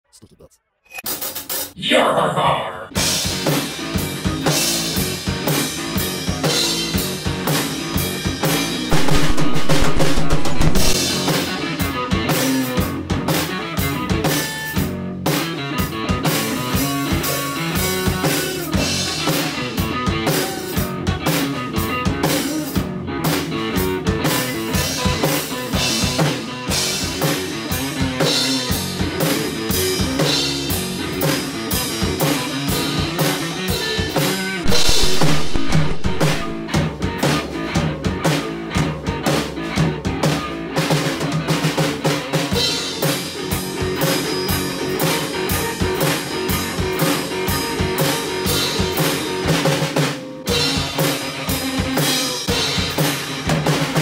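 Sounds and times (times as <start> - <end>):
rock funk jam on drums and guitar: 2.9 - 54.0.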